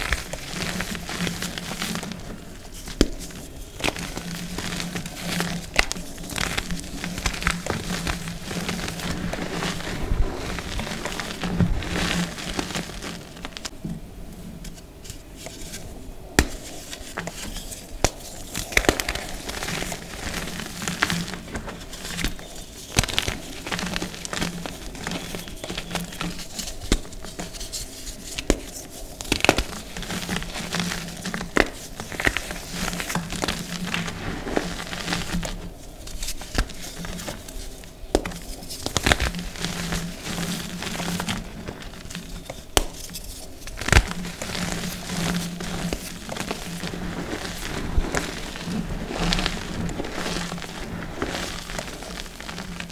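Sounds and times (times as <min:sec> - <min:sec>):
hands crushing chalk: 0:00.0 - 0:13.7, 0:14.6 - 0:52.9.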